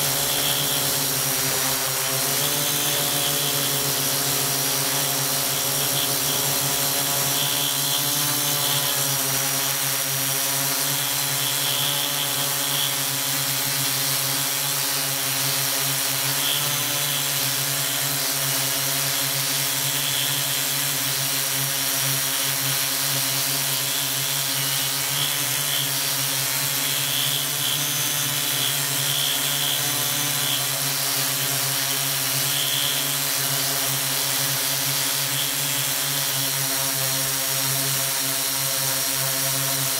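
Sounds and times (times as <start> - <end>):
drone motors humming: 0.0 - 39.9
propeller hiss: 0.0 - 39.9.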